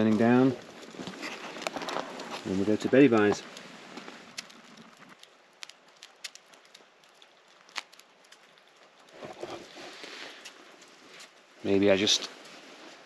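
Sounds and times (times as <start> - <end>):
embers crackling and popping: 0.0 - 13.0
faint steady hiss: 0.0 - 13.0.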